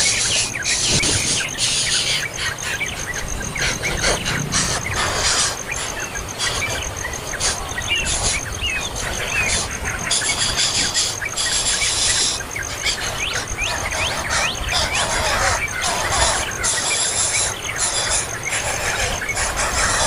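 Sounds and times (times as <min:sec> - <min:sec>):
bird chirps: 0:00.0 - 0:20.0
harsh hissy squealing calls: 0:00.0 - 0:20.0.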